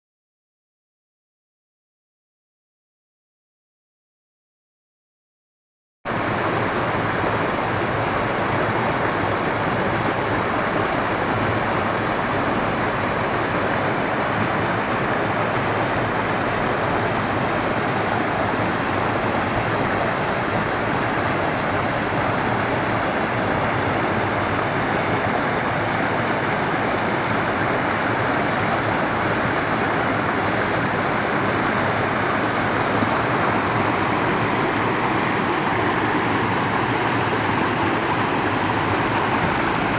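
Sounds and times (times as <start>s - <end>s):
water rushing over rocks: 6.1s - 39.9s.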